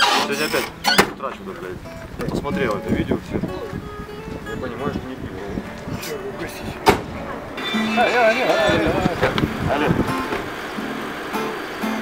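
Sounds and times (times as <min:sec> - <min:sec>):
acoustic guitar notes ringing: 0:00.0 - 0:12.0
guitar chords strummed: 0:00.0 - 0:12.0.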